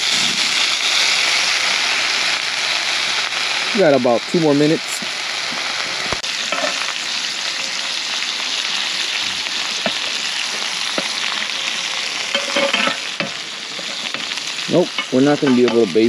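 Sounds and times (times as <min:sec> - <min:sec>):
steaks sizzling in pan: 0:00.0 - 0:16.0.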